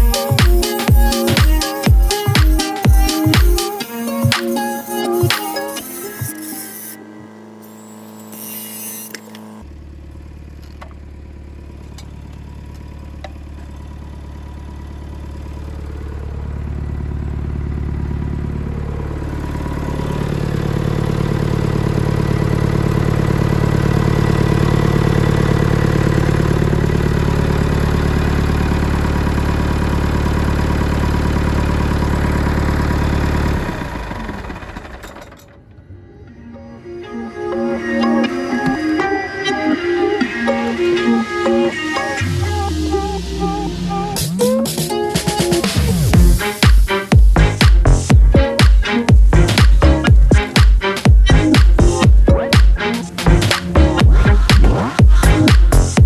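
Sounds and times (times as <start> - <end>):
tractor engine running and revving: 0.0 - 35.8, 41.9 - 56.0.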